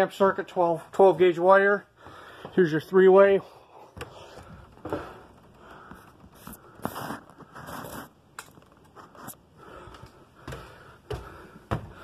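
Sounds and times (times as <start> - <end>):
footsteps: 2.0 - 12.0.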